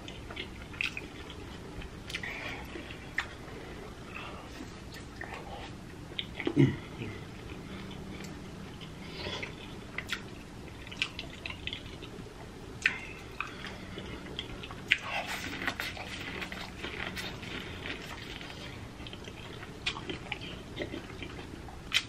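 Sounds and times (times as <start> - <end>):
chewing and lip smacking: 0.0 - 22.0.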